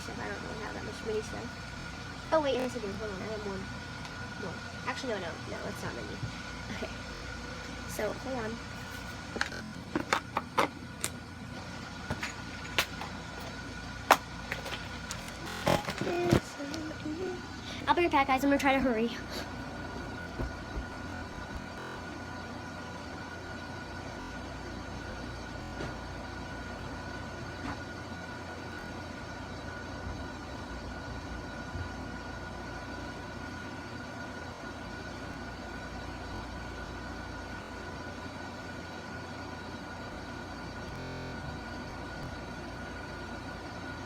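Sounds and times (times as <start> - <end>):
faint steady hum: 0.0 - 44.0
high-pitched whine: 0.0 - 44.0
low rumble and hiss: 0.0 - 44.0.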